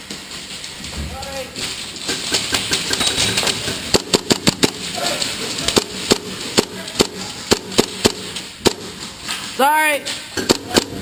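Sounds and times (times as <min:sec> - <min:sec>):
pellets striking surfaces: 0:00.0 - 0:11.0.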